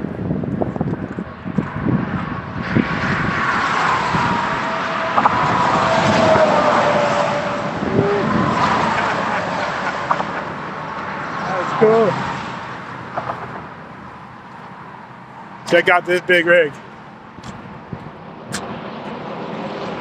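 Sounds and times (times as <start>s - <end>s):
semi truck passing: 1.4s - 20.0s.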